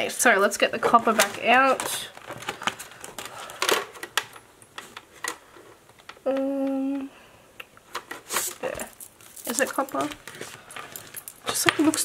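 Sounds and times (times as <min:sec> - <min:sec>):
paper and plastic rustling: 0:00.4 - 0:06.1, 0:07.9 - 0:12.0.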